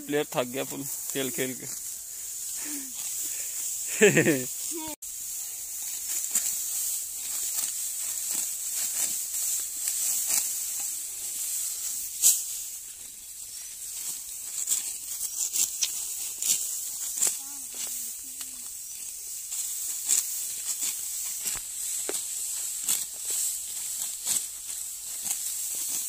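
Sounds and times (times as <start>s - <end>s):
sickle cutting dry wheat: 0.0s - 26.0s
steady high hiss: 0.0s - 26.0s.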